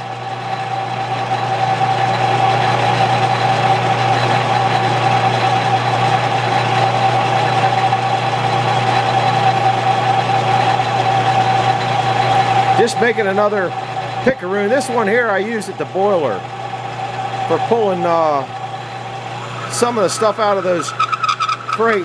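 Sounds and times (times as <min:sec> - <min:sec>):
lathe machine whine: 0:00.0 - 0:22.0
low motor hum: 0:00.0 - 0:22.0.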